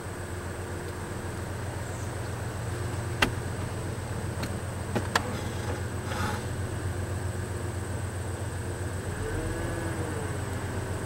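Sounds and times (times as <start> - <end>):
distant train rumble: 0.0 - 11.0.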